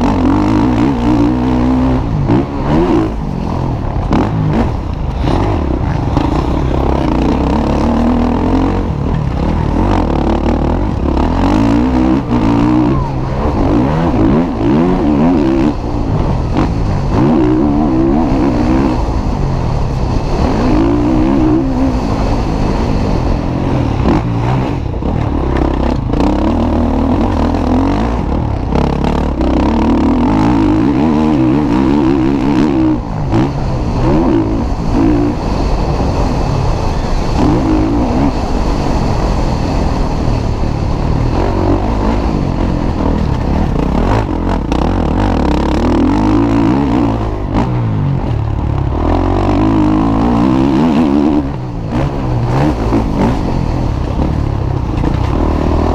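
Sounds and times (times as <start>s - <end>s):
motocross bike engines revving: 0.0s - 55.9s.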